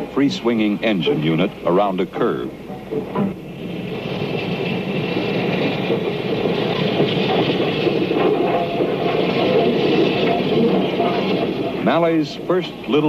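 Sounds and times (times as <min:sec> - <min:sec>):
steam locomotive rolling past: 0:00.0 - 0:13.0.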